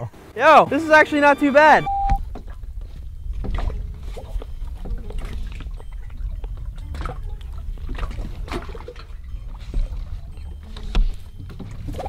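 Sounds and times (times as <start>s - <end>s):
water lapping against raft: 1.2s - 12.0s
steady low rumble: 1.9s - 12.0s.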